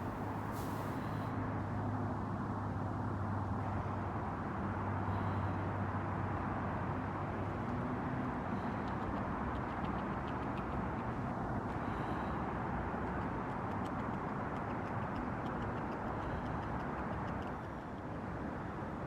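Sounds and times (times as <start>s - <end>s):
distant traffic: 0.0s - 1.4s, 2.8s - 19.0s
wind: 0.0s - 19.0s.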